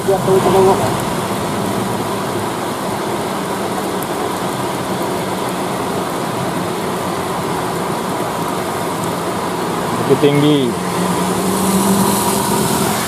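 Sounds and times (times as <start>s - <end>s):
bus engine hum: 0.0s - 13.0s
heavy rain hissing: 0.0s - 13.0s.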